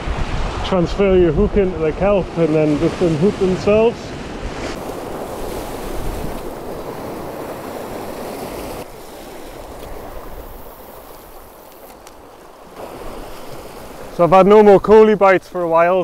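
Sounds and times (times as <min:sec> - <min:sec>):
wind on microphone: 0:00.0 - 0:14.1
waves breaking on rocks: 0:02.2 - 0:16.0.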